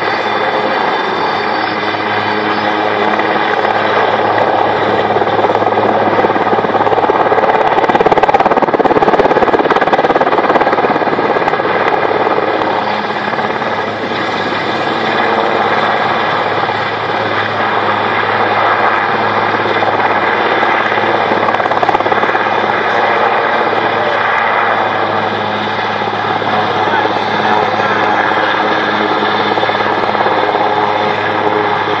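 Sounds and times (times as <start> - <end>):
helicopter passing low: 0.0 - 32.0.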